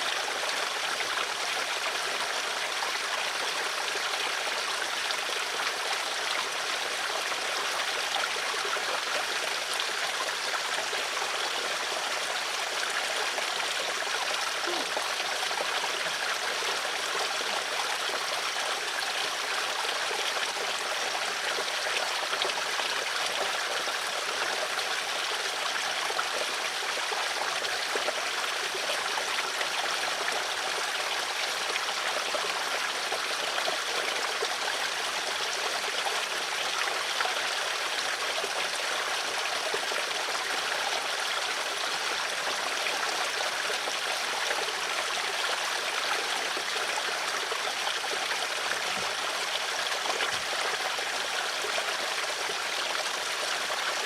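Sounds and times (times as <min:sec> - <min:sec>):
water flowing in a stream: 0:00.0 - 0:54.0.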